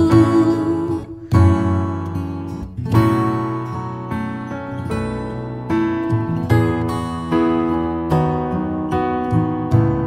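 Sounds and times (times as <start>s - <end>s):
acoustic guitar and piano ballad: 0.0s - 10.0s.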